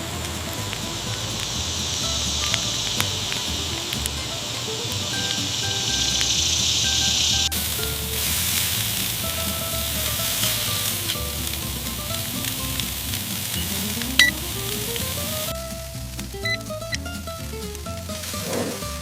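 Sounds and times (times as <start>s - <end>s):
background music: 0.0s - 19.0s
food sizzling: 0.0s - 19.0s.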